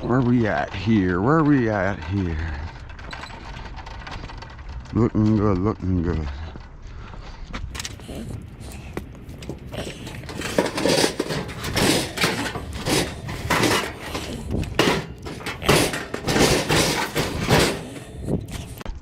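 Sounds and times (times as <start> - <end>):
metal junk clattering and banging: 0.0 - 5.0, 7.8 - 19.0.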